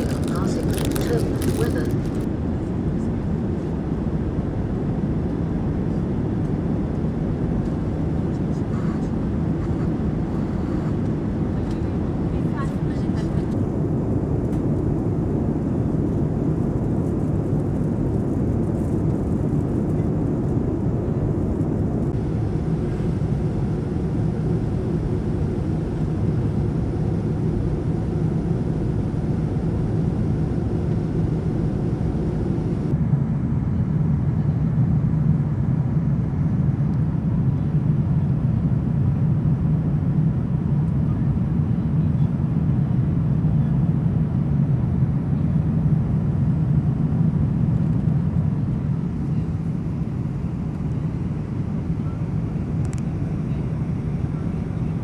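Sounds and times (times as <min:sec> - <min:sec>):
airliner cabin drone: 0:00.0 - 0:55.0.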